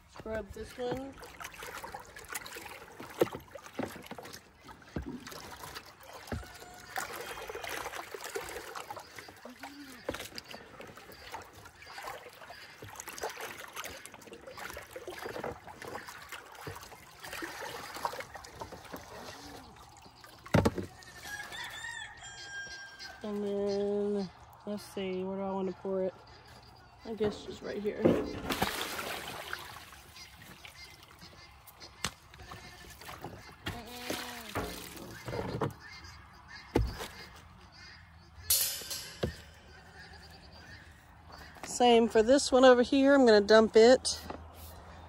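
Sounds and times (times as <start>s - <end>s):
water sloshing: 0.0s - 38.0s.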